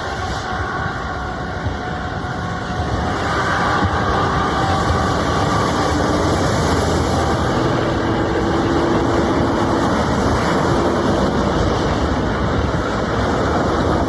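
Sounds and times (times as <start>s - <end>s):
faint droning tones: 0.0s - 14.0s
heavy machine rushing noise: 0.0s - 14.0s.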